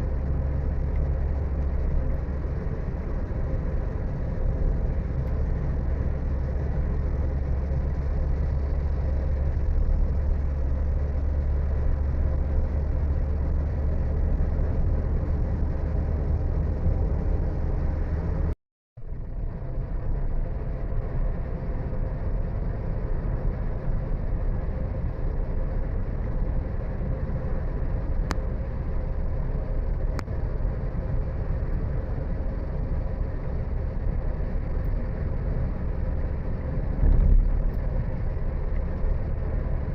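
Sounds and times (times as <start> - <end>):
vehicle engine and tyre rumble: 0.0 - 39.9.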